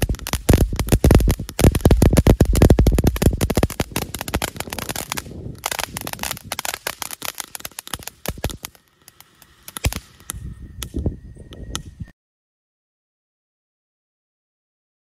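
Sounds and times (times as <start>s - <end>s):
crackling firework fountain: 0.0s - 12.1s.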